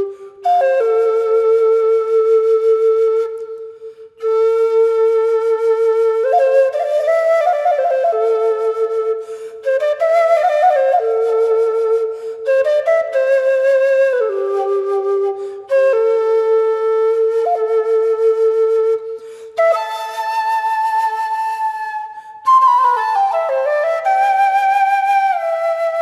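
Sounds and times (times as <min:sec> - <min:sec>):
slow flute meditation music: 0:00.0 - 0:26.0.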